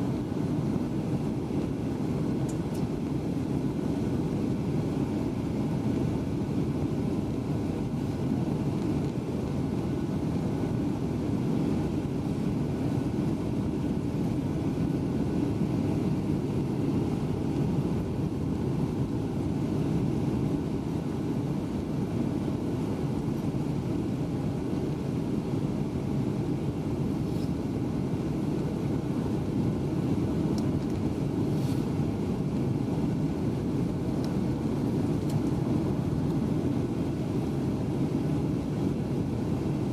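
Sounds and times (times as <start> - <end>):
rushing airflow: 0.0 - 39.8
aircraft engine hum: 0.0 - 39.9.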